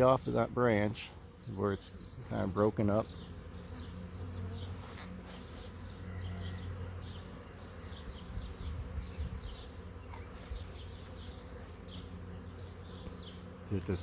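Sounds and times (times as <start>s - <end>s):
bee swarm buzzing: 0.0s - 14.0s.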